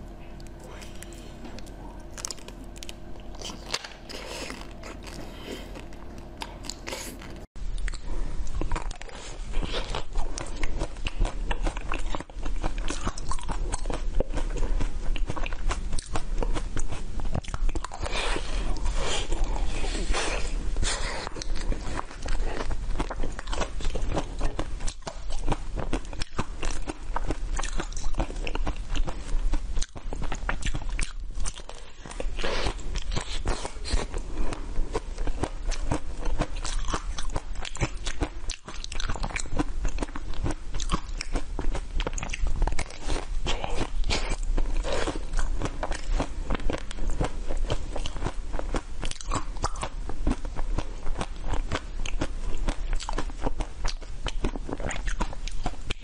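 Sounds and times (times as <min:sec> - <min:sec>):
crunchy ice cream bar chewing: 0:00.1 - 0:56.0.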